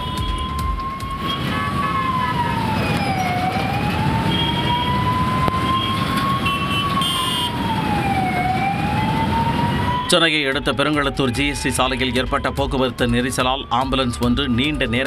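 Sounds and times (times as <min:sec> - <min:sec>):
ambulance siren wailing: 0:00.0 - 0:15.0
traffic noise: 0:00.0 - 0:15.0.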